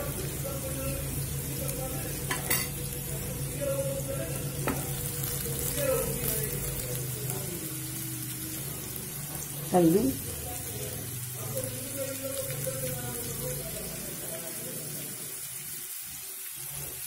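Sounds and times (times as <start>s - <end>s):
potatoes sizzling in oil: 0.0s - 17.0s.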